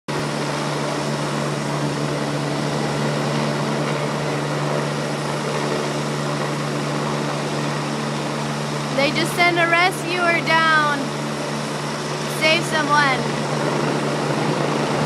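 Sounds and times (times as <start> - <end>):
helicopter hovering: 0.1 - 15.0.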